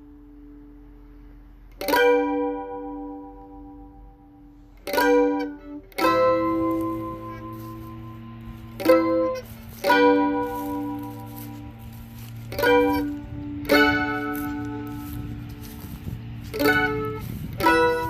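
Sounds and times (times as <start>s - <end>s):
mandolin chords ringing: 0.0s - 18.0s.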